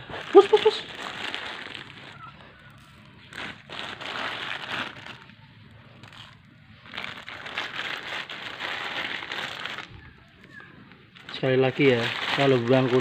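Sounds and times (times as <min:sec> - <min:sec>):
rustling crinkling noise: 0:00.0 - 0:13.0.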